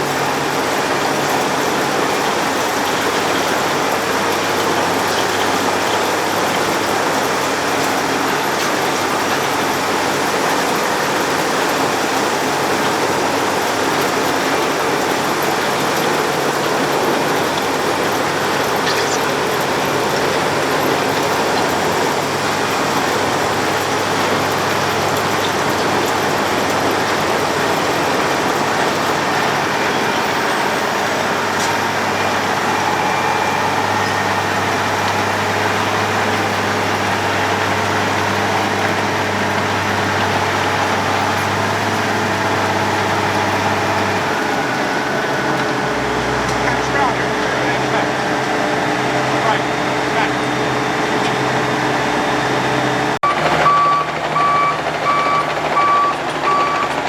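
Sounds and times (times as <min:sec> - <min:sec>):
road planer milling road: 0:00.0 - 0:57.0.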